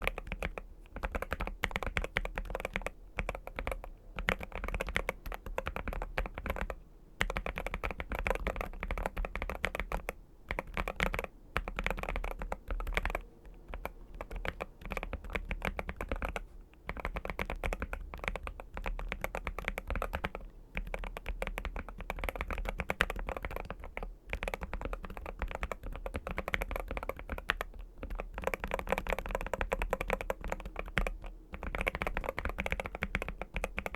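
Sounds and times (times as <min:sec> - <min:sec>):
fast mechanical keyboard typing: 0:00.0 - 0:33.9.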